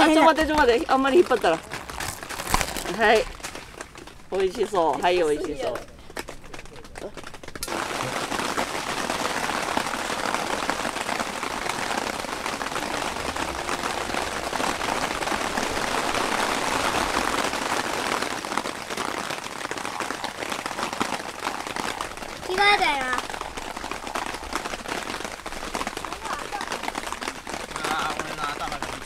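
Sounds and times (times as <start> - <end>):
water pouring in thin stream: 0.1 - 4.6, 7.1 - 29.0.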